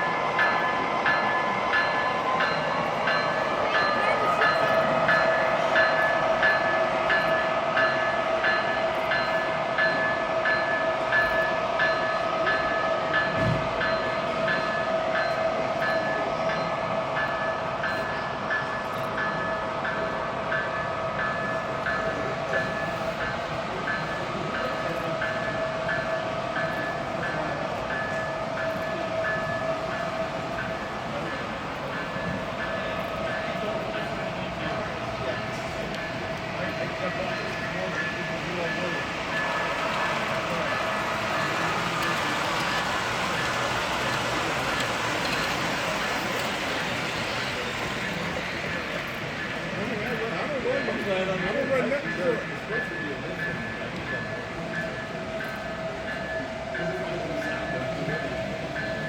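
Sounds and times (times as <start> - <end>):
model train whine: 0.0 - 59.0.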